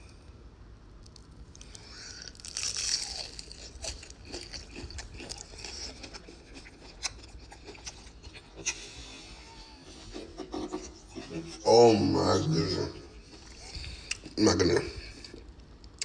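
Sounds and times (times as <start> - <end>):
crunchy chewing: 1.0 - 16.0.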